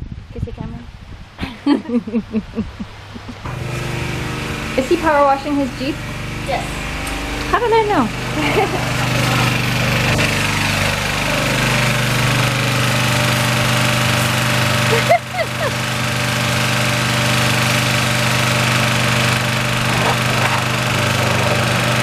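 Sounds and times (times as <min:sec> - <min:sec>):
small engine running steadily: 0:03.4 - 0:22.0.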